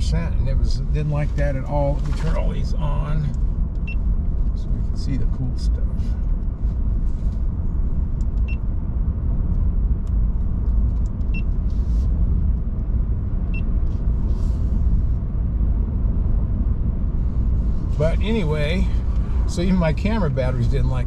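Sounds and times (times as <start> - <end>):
tyre and road rumble: 0.0 - 21.0.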